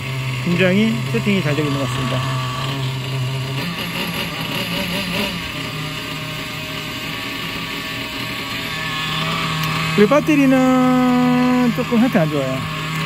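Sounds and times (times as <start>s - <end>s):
small nitro engine idling: 0.0s - 13.0s.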